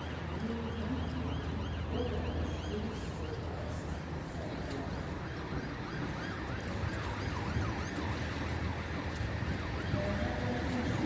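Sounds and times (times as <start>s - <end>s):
distant siren yelping: 0.0s - 4.2s, 4.9s - 11.0s.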